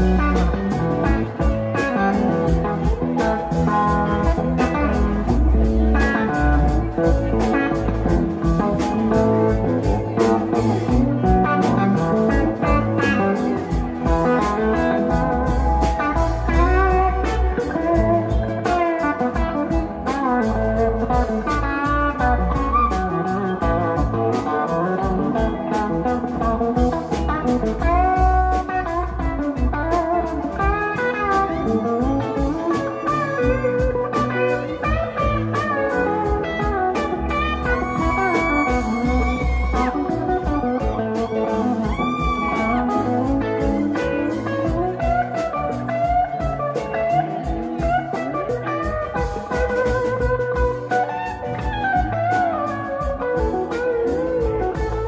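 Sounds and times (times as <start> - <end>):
electric guitar lead: 0.0 - 55.0
live rock band playing: 0.0 - 55.0.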